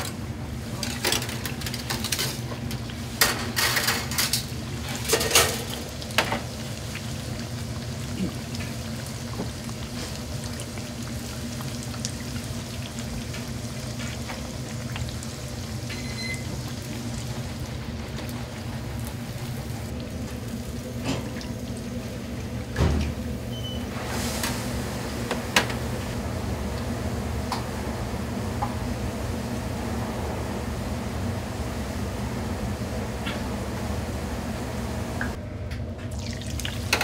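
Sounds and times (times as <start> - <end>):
oil bubbling and sizzling: 0.1 - 35.4, 36.0 - 37.0.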